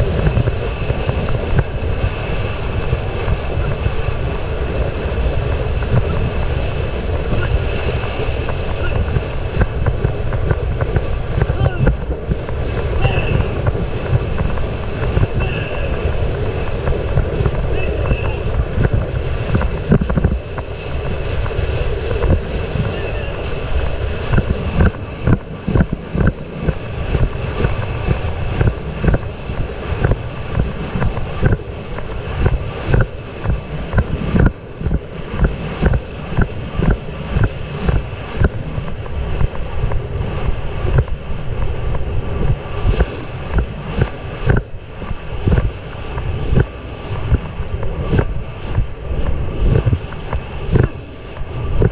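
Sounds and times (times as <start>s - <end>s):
wind buffeting microphone: 0.0s - 51.9s
horse hooves galloping on dirt: 5.6s - 23.0s, 23.8s - 40.1s, 42.9s - 51.9s.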